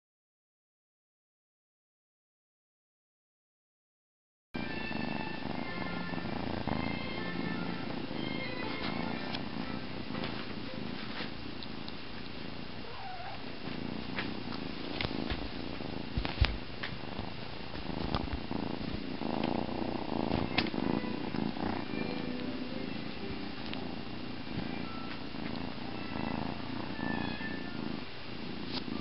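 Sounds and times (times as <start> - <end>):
kitten purring: 4.6 - 29.0.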